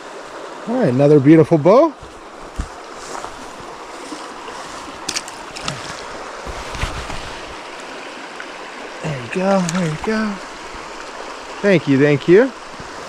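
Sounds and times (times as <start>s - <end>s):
mountain stream running: 0.0s - 13.0s.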